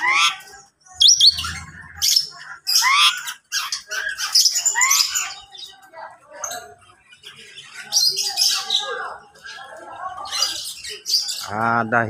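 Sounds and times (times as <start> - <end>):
caged birds chirping and calling: 0.0 - 12.0.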